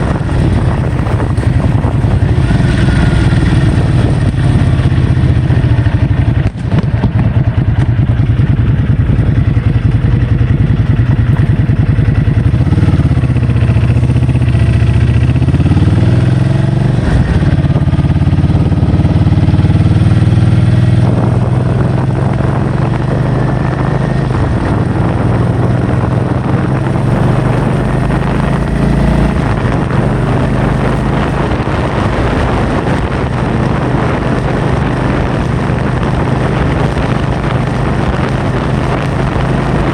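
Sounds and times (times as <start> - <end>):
vehicle engine running: 0.0 - 39.9
wind on microphone: 0.0 - 39.9.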